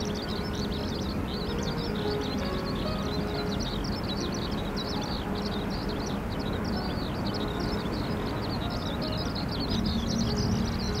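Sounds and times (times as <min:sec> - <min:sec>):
small birds chirping: 0:00.0 - 0:11.0
steady low rumbling: 0:00.0 - 0:11.0.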